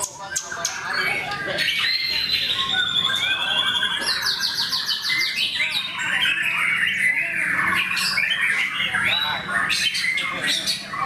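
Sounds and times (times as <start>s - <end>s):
birds singing whistles and chatter: 0.0s - 11.0s
fast bird trill: 0.0s - 11.0s.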